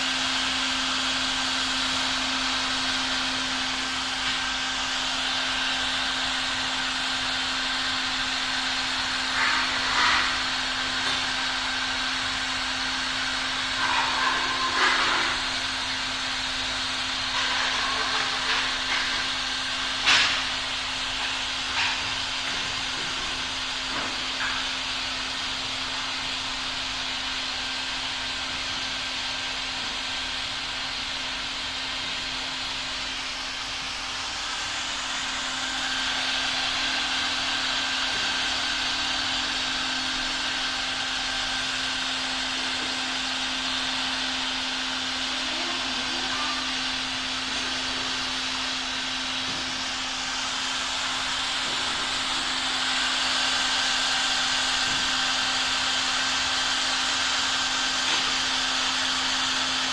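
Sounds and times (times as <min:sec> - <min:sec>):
hot-air blower hiss: 0:00.0 - 0:59.9
motor hum: 0:00.0 - 0:59.9.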